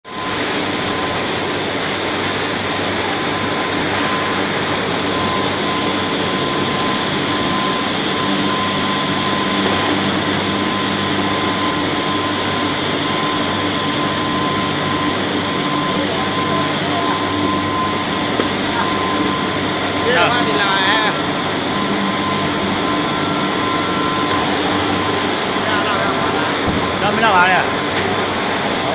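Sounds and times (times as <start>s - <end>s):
industrial furnace noise: 0.0s - 28.9s
steady high-pitched tone: 0.0s - 28.9s.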